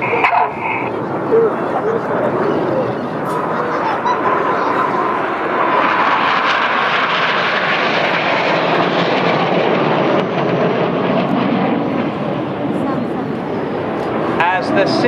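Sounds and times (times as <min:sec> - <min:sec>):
jets flying past: 0:00.0 - 0:15.0.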